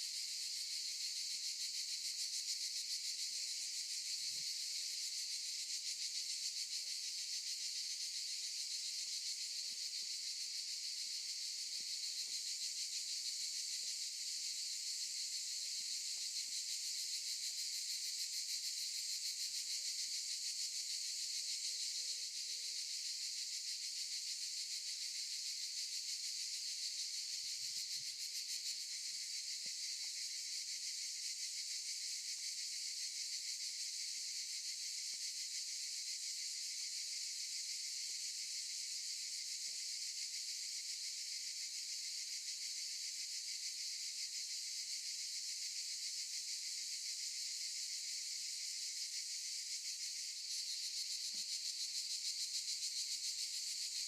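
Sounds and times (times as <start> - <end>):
cicadas buzzing: 0.2 - 19.4, 20.1 - 54.0.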